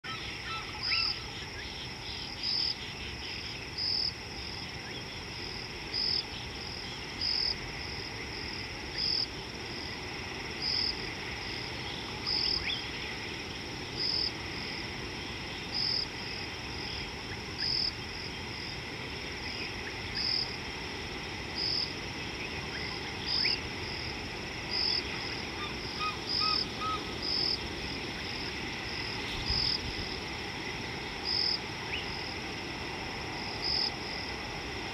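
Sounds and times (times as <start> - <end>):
insect chorus trilling: 0.0 - 34.9
insect chirp pulsing: 0.1 - 34.9.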